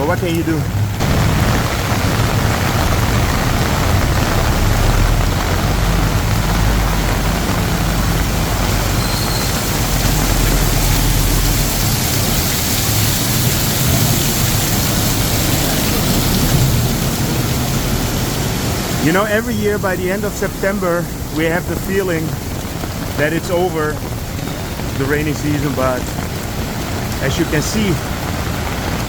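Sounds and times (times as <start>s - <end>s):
heavy rain pouring: 0.0s - 29.0s
vehicle engines in traffic: 0.0s - 29.0s.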